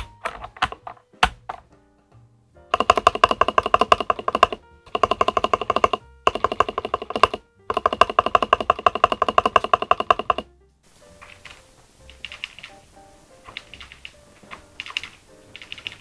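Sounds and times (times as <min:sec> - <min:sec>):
fast typing on mechanical keyboard: 0:00.0 - 0:01.6, 0:02.8 - 0:10.5, 0:11.2 - 0:16.0.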